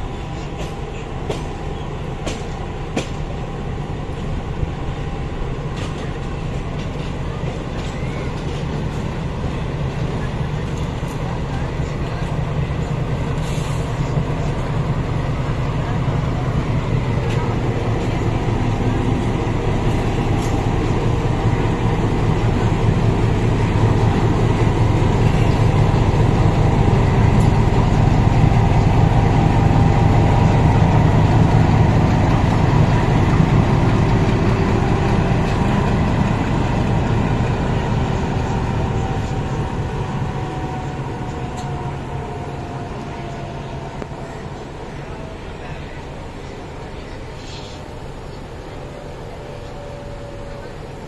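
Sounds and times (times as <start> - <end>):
diesel locomotive engine rumbling: 0.0 - 51.0.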